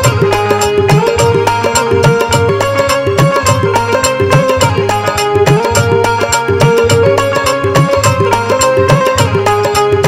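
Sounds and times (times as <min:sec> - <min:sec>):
fast hand-drum beat: 0:00.0 - 0:10.0
sustained melody line: 0:00.0 - 0:10.0.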